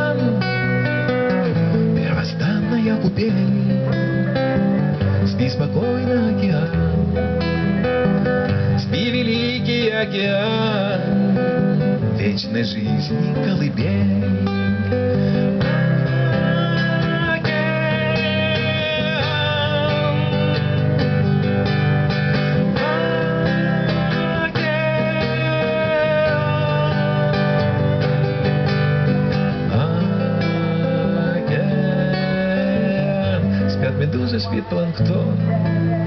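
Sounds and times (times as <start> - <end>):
acoustic guitar strumming and plucking: 0.0 - 36.0.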